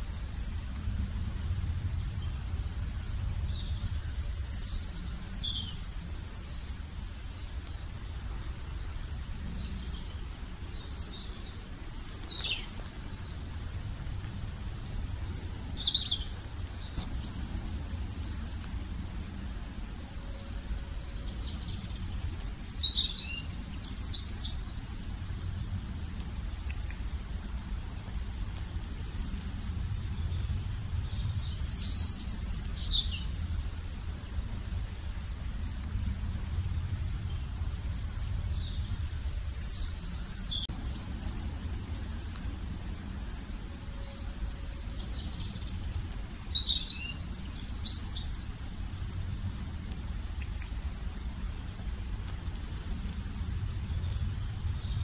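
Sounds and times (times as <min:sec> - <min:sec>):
low background rumble: 0:00.0 - 0:55.0
songbirds chirping: 0:00.0 - 0:55.0.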